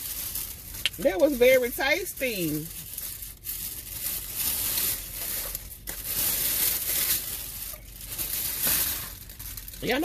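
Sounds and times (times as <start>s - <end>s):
food packaging crinkling: 0.0s - 10.0s.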